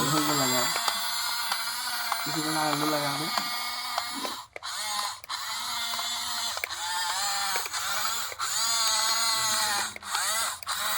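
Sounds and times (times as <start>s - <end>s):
ratcheting gears: 0.0s - 10.9s
toy gear motor whirring: 0.0s - 10.9s.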